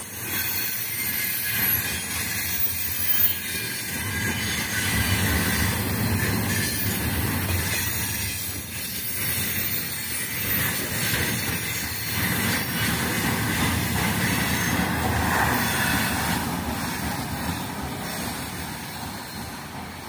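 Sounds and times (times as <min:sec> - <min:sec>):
train wheels rolling on track: 0:00.0 - 0:20.0.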